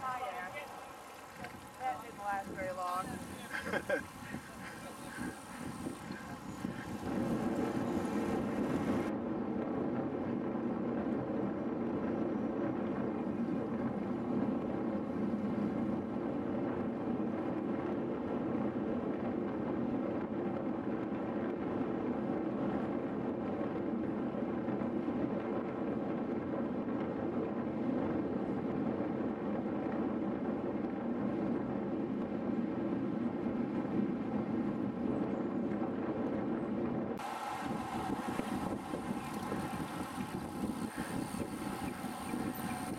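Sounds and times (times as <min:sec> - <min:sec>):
road noise: 0:00.0 - 0:19.5, 0:26.9 - 0:42.9
wind rushing on microphone: 0:00.0 - 0:42.9.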